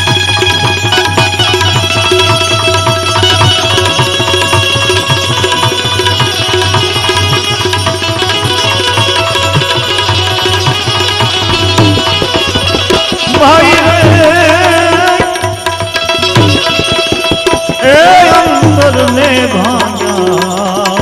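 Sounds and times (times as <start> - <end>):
tabla rhythm: 0.0 - 21.0.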